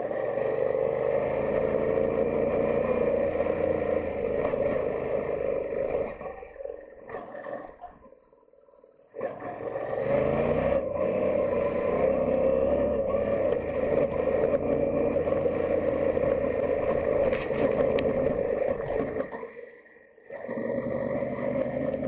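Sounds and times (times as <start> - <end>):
motorcycle engine accelerating: 0.0 - 7.9, 9.1 - 19.3, 20.3 - 22.0.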